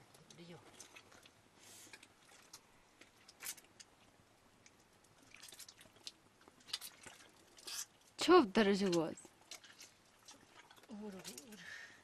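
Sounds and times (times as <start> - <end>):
soft crackles and drips: 0.0 - 12.0
wet squelches of kneading: 0.0 - 12.0.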